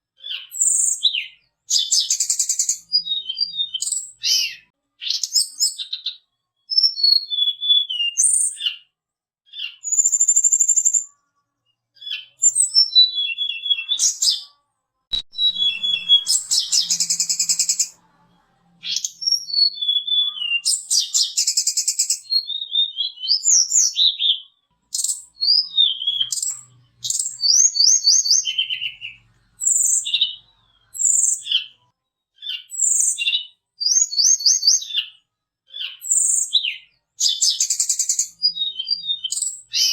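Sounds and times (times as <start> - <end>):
flycatcher singing whistled phrases: 0.3 - 6.1, 6.7 - 8.7, 9.6 - 11.1, 12.0 - 14.5, 15.2 - 18.0, 18.8 - 31.8, 32.4 - 35.1, 35.8 - 39.9.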